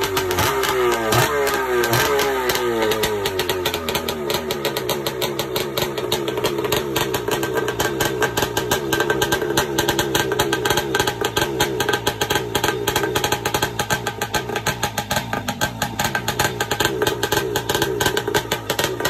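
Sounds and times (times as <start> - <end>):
two-stroke engine fast idle: 0.0 - 19.0.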